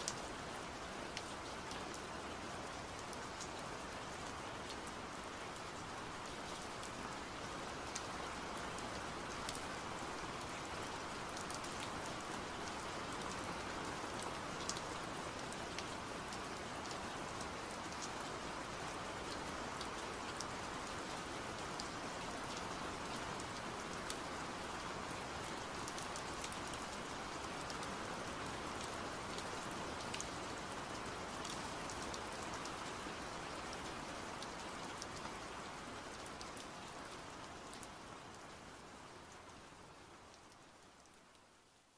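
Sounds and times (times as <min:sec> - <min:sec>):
rain-like hiss: 0:00.0 - 0:41.9.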